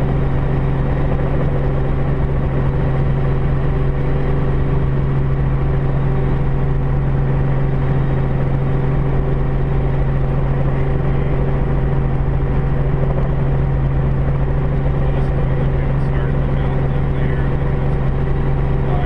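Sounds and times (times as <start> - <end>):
aircraft engine and propeller droning: 0.0 - 19.0.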